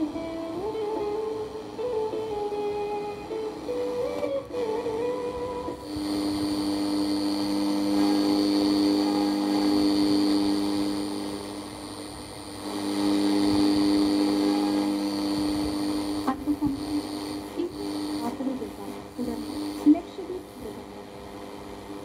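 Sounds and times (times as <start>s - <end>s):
radio buzzing hum with static: 0.0s - 22.0s.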